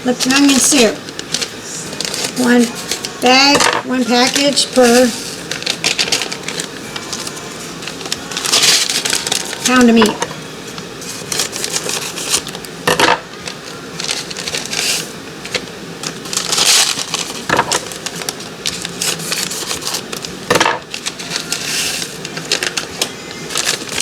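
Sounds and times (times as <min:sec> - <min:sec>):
foil packets crinkling: 0:00.1 - 0:24.0.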